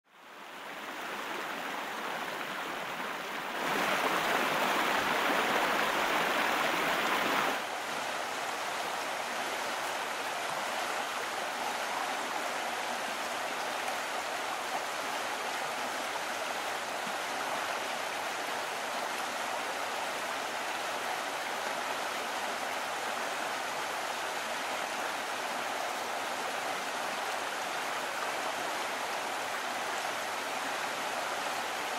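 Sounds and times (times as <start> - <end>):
stream running over stones: 0.2 - 31.9.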